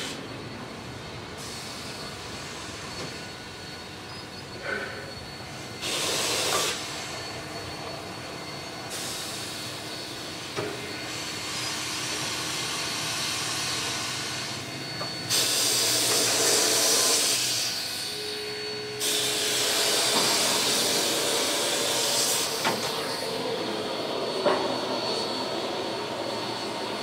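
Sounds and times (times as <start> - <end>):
steam locomotive hissing steam: 0.0 - 27.0.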